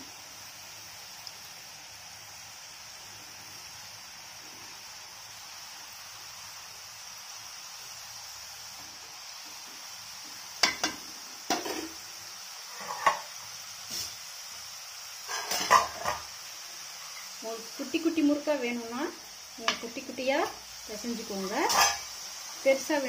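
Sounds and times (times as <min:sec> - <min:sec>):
dough deep-frying in oil: 0:00.0 - 0:23.0.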